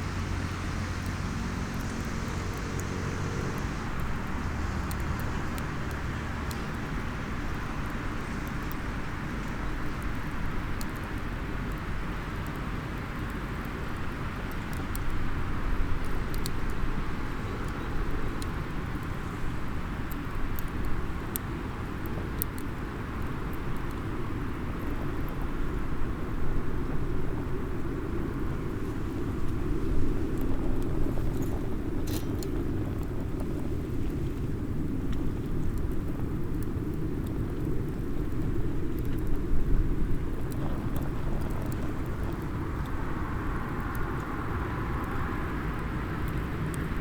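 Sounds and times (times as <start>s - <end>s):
wood fire crackling and popping: 0.1s - 47.0s.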